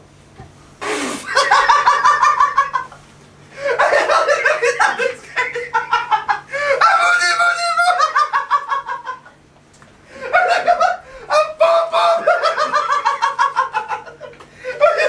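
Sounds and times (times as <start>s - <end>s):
rhythmic laughter: 1.2s - 3.0s, 3.6s - 9.4s, 10.1s - 15.0s.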